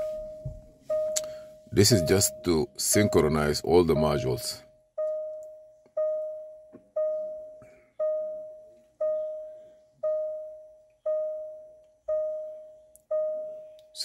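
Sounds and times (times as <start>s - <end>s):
car warning chime: 0.0s - 14.0s.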